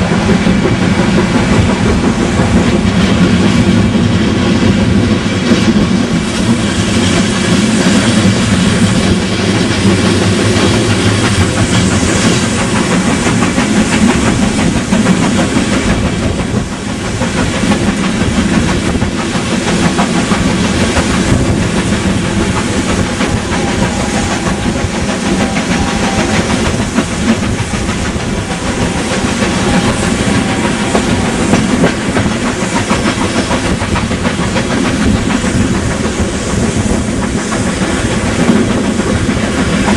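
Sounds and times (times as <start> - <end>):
train rumbling along track: 0.0 - 39.9.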